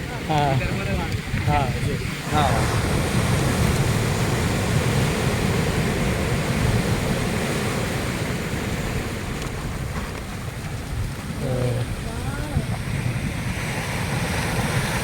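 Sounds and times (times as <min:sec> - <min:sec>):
sea surf washing: 0:00.0 - 0:15.0
wind buffeting microphone: 0:00.0 - 0:15.0.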